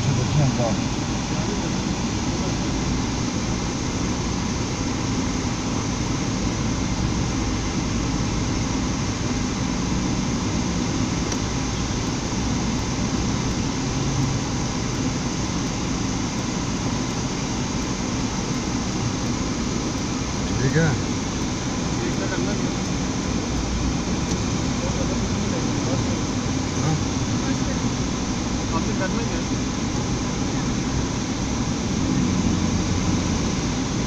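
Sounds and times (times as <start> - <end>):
engine and road noise inside van: 0.0 - 34.0.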